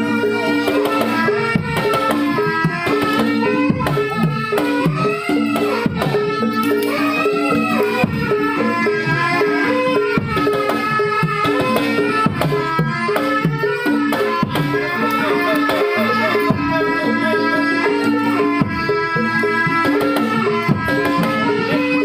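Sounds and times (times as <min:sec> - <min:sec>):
hand drums beating: 0:00.0 - 0:22.0
sustained pitched melody: 0:00.0 - 0:22.0.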